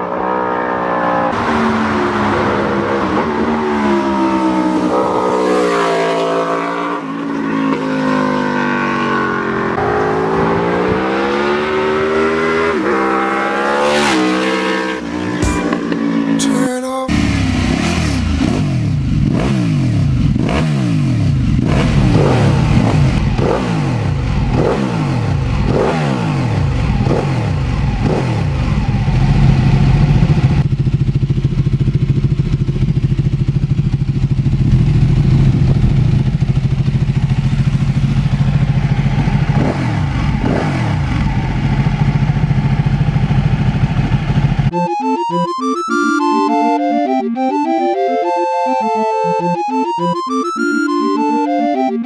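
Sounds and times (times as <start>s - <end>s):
motorcycle engine revving: 0.0s - 16.5s, 17.1s - 44.7s.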